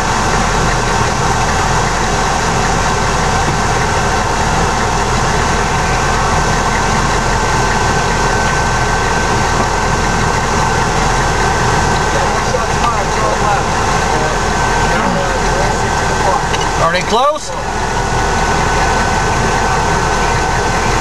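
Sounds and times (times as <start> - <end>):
engine idling rumble: 0.0 - 21.0
faint steady whine: 0.0 - 21.0.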